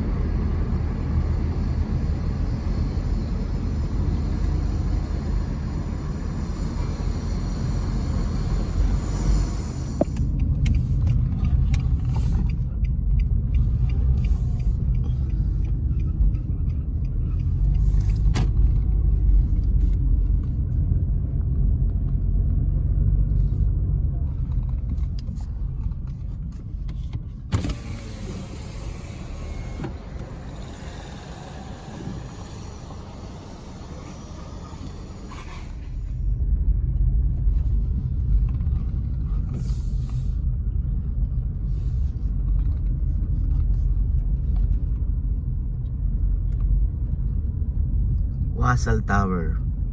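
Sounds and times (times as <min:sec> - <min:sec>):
car engine and tyre rumble: 0:00.0 - 0:49.9.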